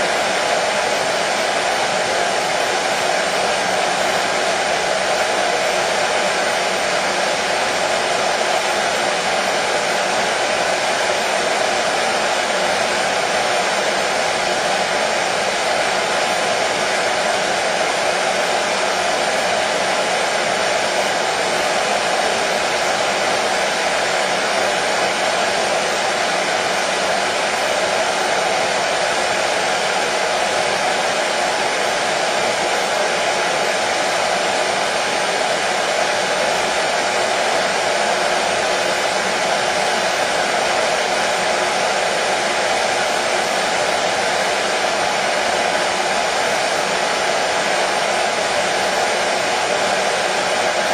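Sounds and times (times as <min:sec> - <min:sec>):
hair dryer running: 0:00.0 - 0:50.9.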